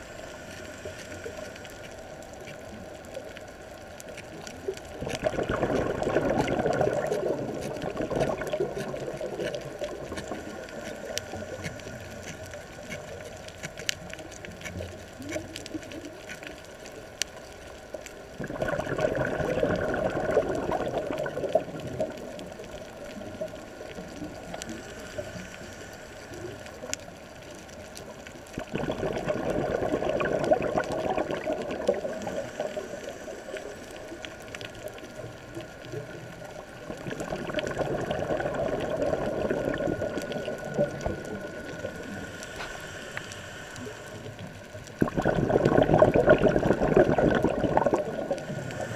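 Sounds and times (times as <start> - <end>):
underwater air bubbles: 0.0 - 48.9.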